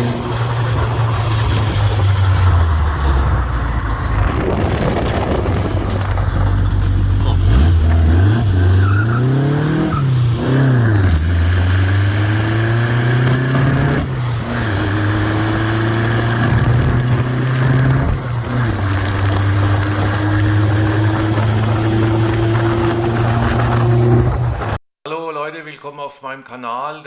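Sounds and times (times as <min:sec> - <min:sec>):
car engine revving: 0:00.0 - 0:24.8.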